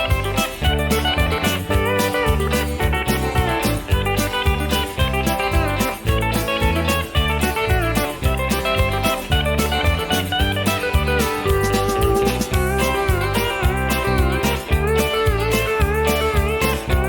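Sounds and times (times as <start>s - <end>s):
bass: 0.0s - 17.0s
electric guitars: 0.0s - 17.0s
pedal steel guitar: 0.0s - 17.0s
steady drum beat: 0.0s - 17.0s.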